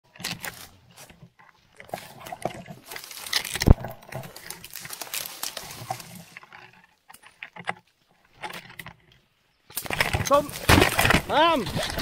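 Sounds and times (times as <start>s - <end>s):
brush and leaves rustling: 0.1s - 12.0s
clothing and gear scraping: 0.1s - 12.0s.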